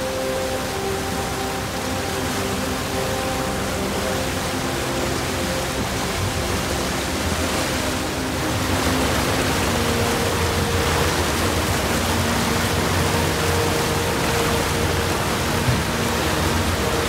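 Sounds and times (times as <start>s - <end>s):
low steady hum: 0.0s - 17.0s
wake water rushing and splashing: 0.0s - 17.0s.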